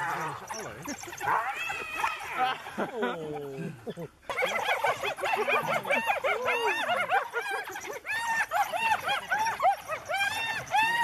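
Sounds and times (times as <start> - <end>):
wild dogs twittering: 0.0 - 11.0.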